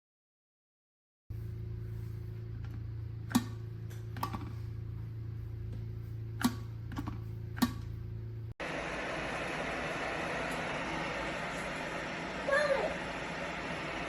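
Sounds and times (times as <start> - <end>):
low electrical hum: 1.3 - 14.0.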